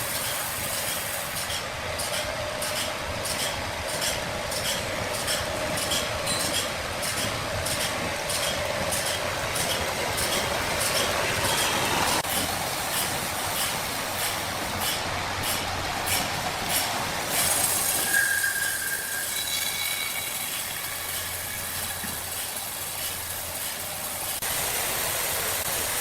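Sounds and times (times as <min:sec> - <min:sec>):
sawmill machinery running: 0:00.0 - 0:26.0.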